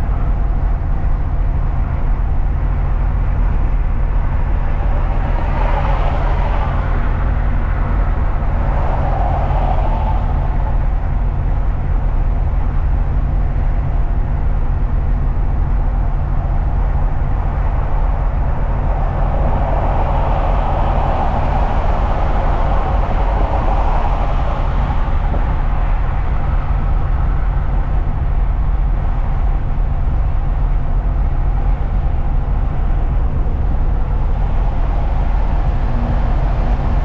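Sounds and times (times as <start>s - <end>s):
truck engine rumble: 0.0s - 37.0s.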